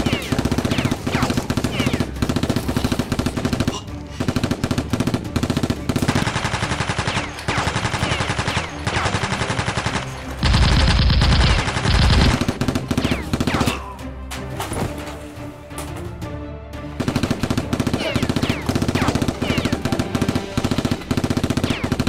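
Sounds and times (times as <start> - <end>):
rapid machine-gun fire: 0.0 - 13.8, 17.0 - 22.0.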